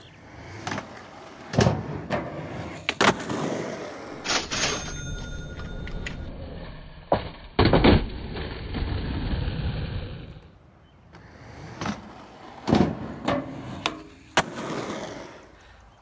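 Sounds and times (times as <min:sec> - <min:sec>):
skateboard wheels rolling on concrete: 0:00.0 - 0:16.0.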